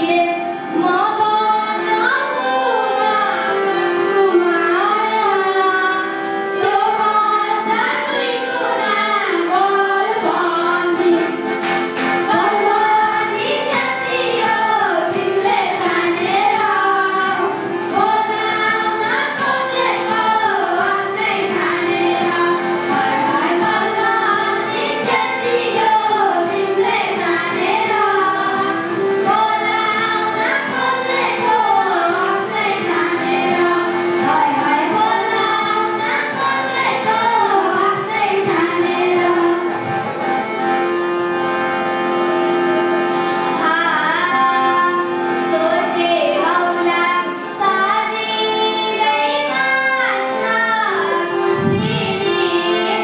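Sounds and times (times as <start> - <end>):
children singing folk song: 0.0 - 53.0
held instrumental tones: 3.0 - 53.0.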